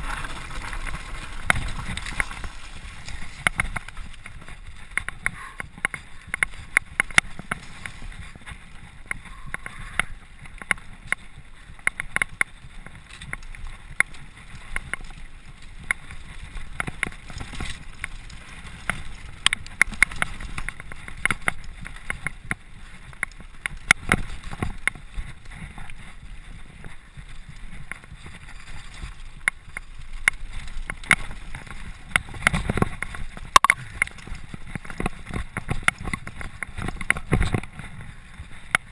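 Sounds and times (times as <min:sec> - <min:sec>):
mountain bike rattling: 0:00.0 - 0:38.9.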